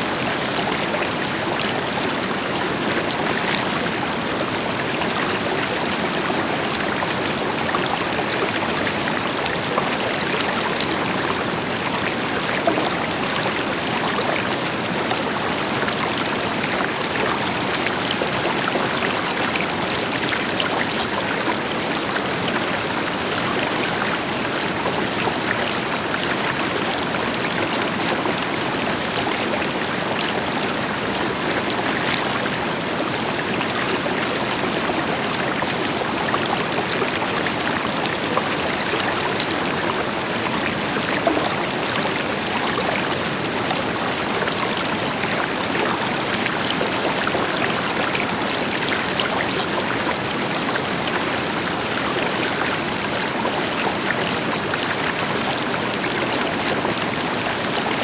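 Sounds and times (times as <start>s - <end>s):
river water splashing over rocks: 0.1s - 58.0s.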